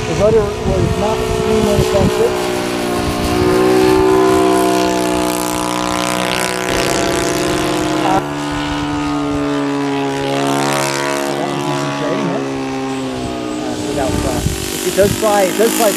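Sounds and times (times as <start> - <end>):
model airplane engine buzzing: 0.0 - 15.9.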